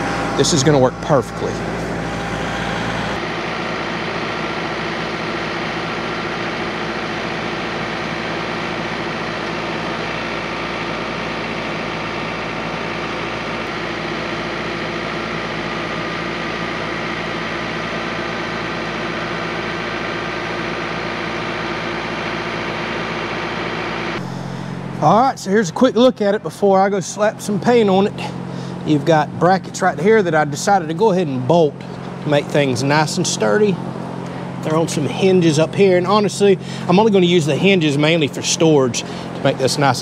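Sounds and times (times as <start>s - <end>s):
hydraulics lowering loader: 0.0s - 40.0s
tractor diesel engine running: 0.0s - 40.0s.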